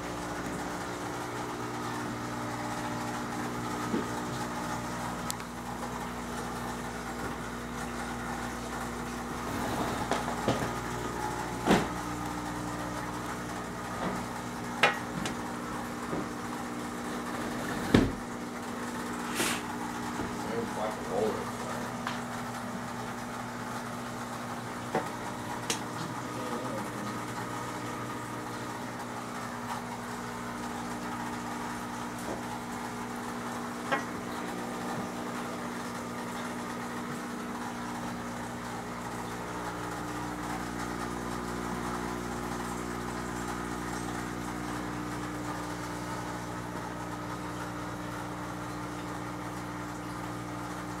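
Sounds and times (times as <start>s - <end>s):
aquarium air pump humming: 0.0s - 51.0s.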